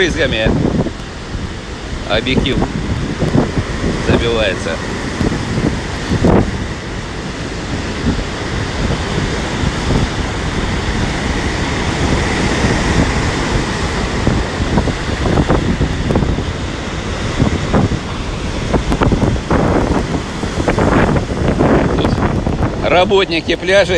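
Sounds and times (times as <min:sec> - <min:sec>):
gusty wind buffeting microphone: 0:00.0 - 0:23.9
surf breaking: 0:00.0 - 0:23.9.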